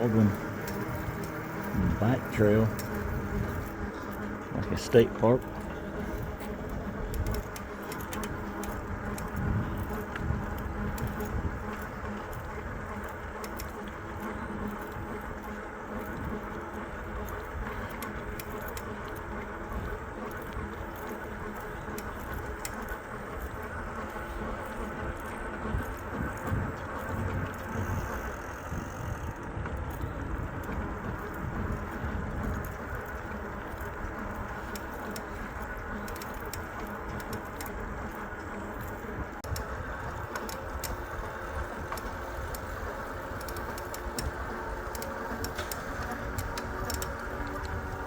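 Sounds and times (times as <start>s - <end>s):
light rattling and clicking: 0.0s - 48.0s
wind rumble: 0.0s - 48.0s.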